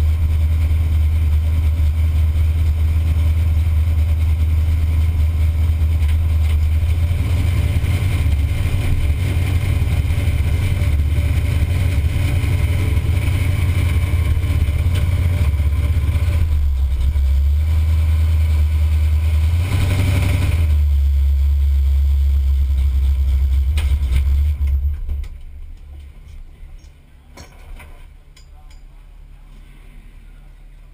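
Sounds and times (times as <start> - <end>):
car engine running low: 0.0 - 27.0.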